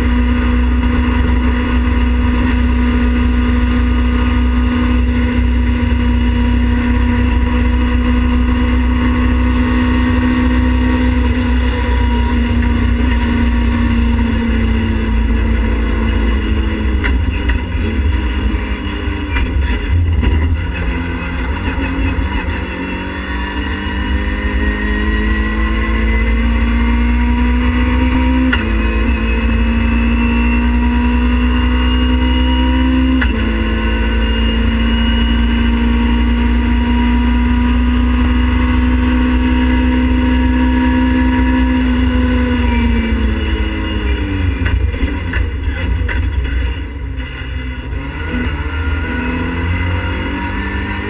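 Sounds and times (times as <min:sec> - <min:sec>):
race car engine at full throttle: 0:00.0 - 0:51.0.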